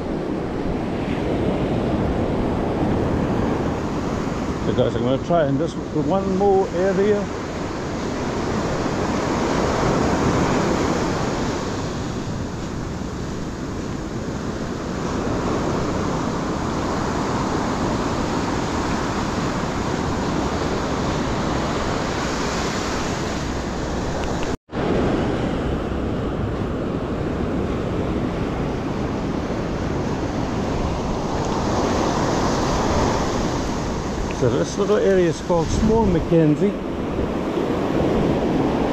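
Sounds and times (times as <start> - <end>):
surf breaking on beach: 0.0 - 38.9
wind buffeting microphone: 0.0 - 38.9.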